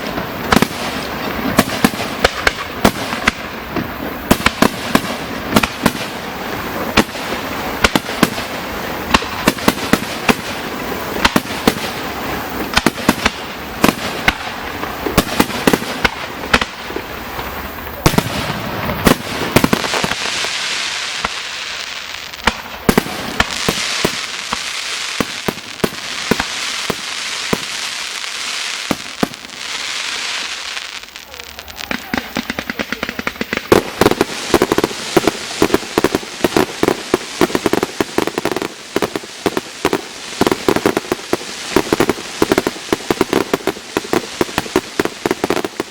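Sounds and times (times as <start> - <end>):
fireworks bangs: 0.0 - 45.9
fireworks crackling hiss: 0.0 - 45.9.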